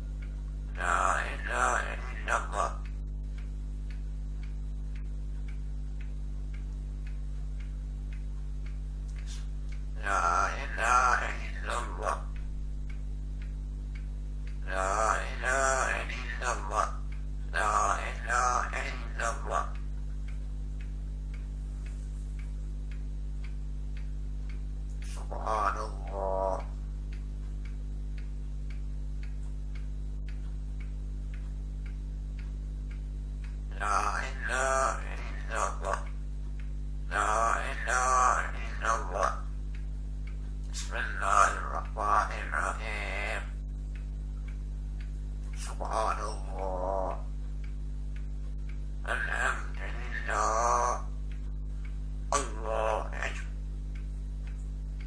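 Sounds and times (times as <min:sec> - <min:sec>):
clock ticking: 0:00.0 - 0:55.0
electrical hum: 0:00.0 - 0:55.0.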